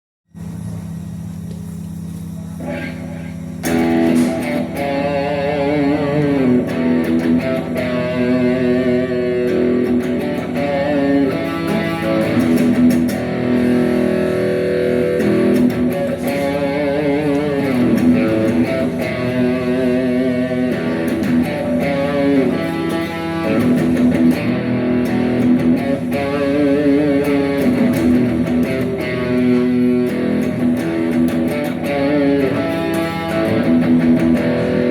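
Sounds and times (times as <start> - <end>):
rock music with electric guitar: 2.6 - 34.9.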